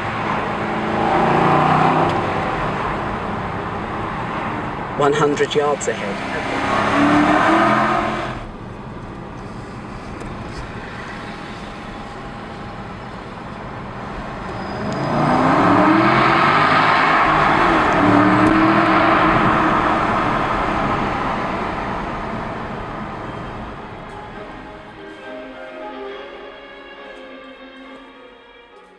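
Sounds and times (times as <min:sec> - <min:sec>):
car engine accelerating hard: 0:00.0 - 0:24.7.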